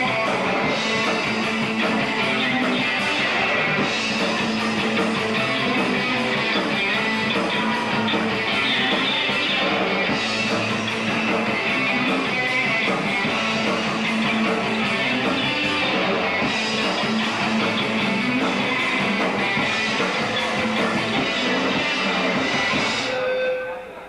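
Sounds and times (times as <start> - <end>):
drum kit: 0.0 - 24.0
electric guitars: 0.0 - 24.0.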